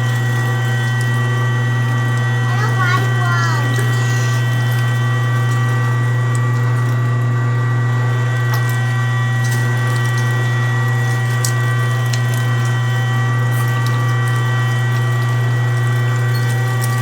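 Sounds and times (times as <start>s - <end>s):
electric meat grinder running: 0.0s - 17.0s.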